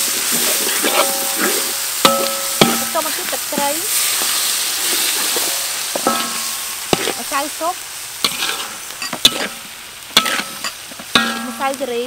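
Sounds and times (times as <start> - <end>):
spatula scraping a wok: 0.0 - 11.8
spice paste sizzling in a wok: 0.0 - 12.0.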